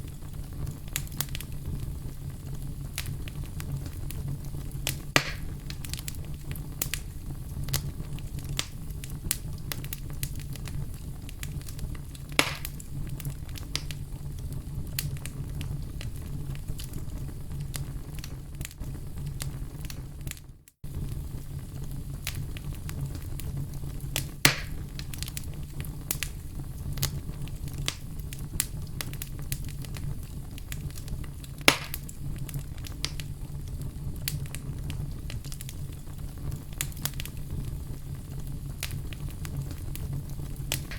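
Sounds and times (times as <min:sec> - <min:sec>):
fire pops: 0:00.0 - 0:40.9
wood fire crackling: 0:00.0 - 0:40.9.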